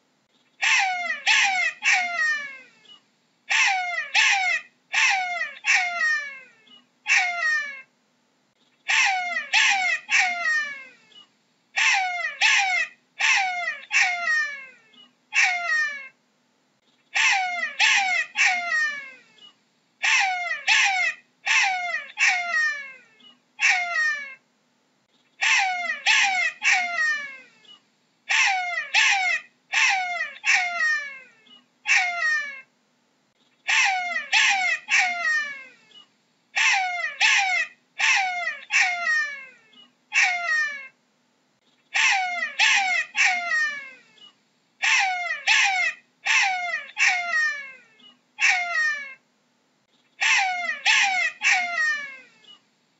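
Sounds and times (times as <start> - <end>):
jackal yelping: 0.6 - 2.7, 3.5 - 7.9, 8.9 - 11.2, 11.8 - 16.2, 17.1 - 19.3, 20.0 - 24.4, 25.4 - 32.7, 33.6 - 35.8, 36.6 - 41.0, 41.9 - 49.2, 50.2 - 52.6.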